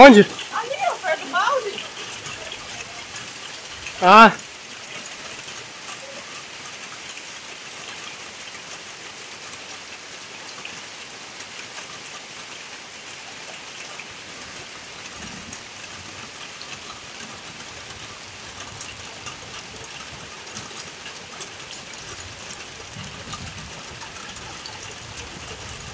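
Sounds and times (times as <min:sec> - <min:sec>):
heavy rain on wet ground: 0:00.0 - 0:25.9.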